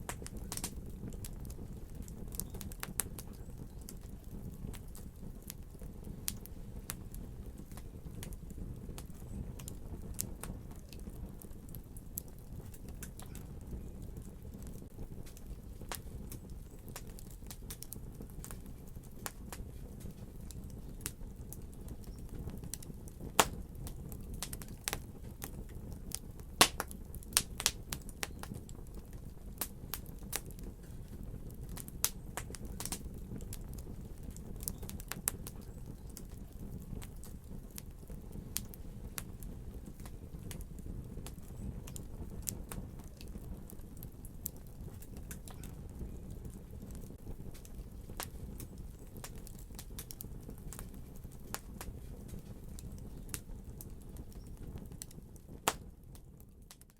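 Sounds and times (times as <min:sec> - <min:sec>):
fire popping and snapping: 0:00.0 - 0:56.9
wood fire crackling: 0:00.0 - 0:56.9.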